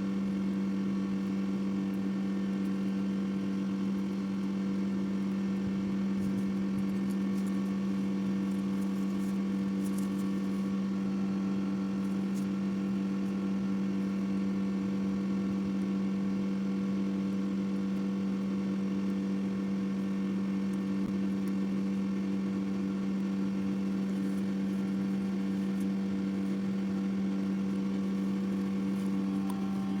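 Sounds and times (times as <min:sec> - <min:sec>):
steady machine hum: 0:00.0 - 0:16.9, 0:19.7 - 0:30.0.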